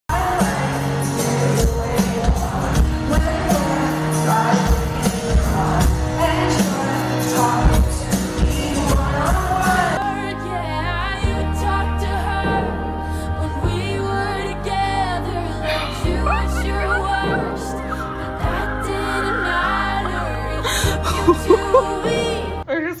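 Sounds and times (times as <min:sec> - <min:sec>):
bass: 0:00.0 - 0:23.0
pop song with singer: 0:00.1 - 0:22.9.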